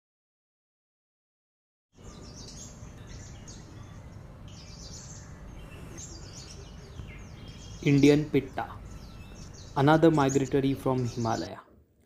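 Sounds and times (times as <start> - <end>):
birds chirping: 2.0 - 11.8
steady background hiss: 2.0 - 12.0.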